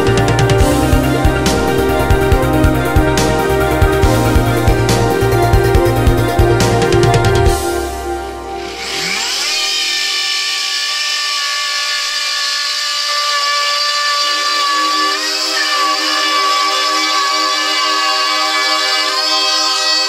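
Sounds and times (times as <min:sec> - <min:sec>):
router motor whining: 0:00.0 - 0:20.0.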